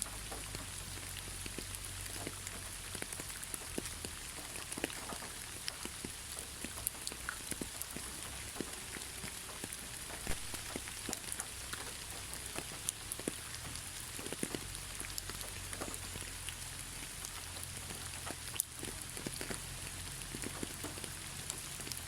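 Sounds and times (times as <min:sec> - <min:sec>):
raindrops pattering on surfaces: 0:00.0 - 0:22.0
steady rain hiss: 0:00.0 - 0:22.0.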